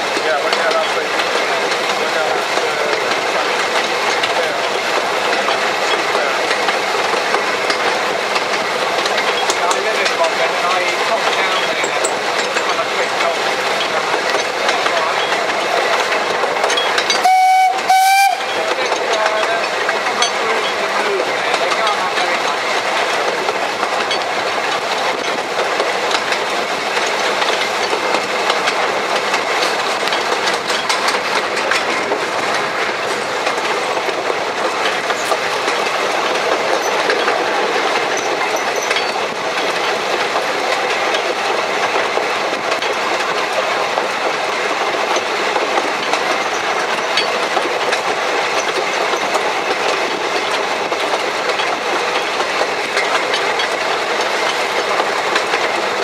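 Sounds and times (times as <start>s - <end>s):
train rattling and rumbling: 0.0s - 56.0s
wheels clicking over rail joints: 0.0s - 56.0s.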